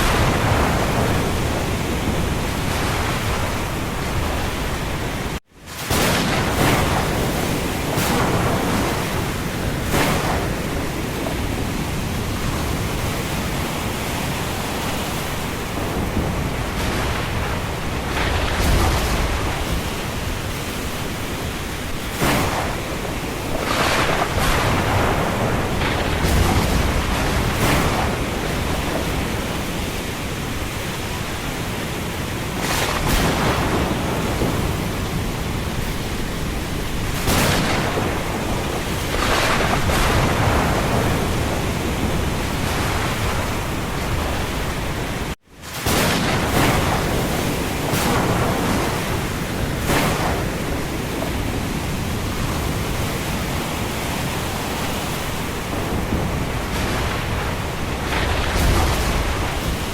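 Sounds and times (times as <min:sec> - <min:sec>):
rain: 0:00.0 - 0:59.9
wind gusts: 0:00.0 - 0:59.9.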